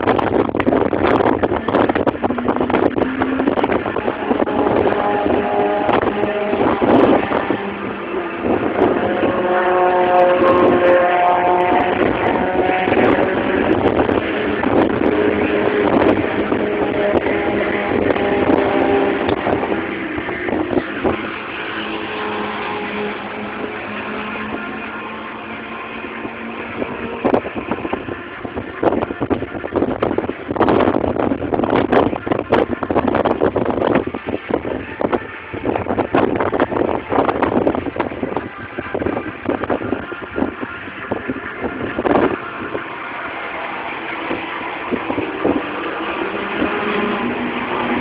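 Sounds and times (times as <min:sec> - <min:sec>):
race car engines: 0:00.0 - 0:48.0
wind noise on microphone: 0:00.0 - 0:48.0.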